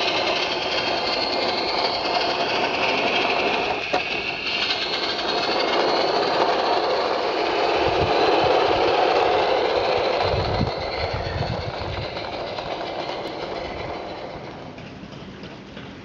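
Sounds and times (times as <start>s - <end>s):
small steam locomotive running: 0.0s - 16.0s
wagons rolling on track: 0.0s - 16.0s.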